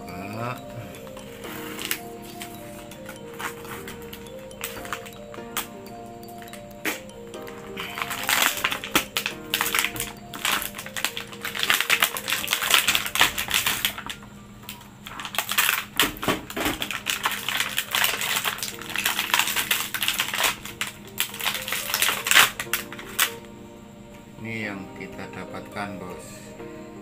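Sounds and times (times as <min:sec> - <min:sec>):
plastic packaging crackling: 0:00.0 - 0:23.5.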